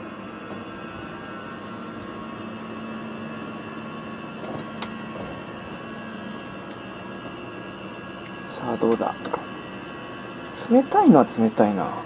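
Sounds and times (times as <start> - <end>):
air conditioner fan humming: 0.0 - 12.0.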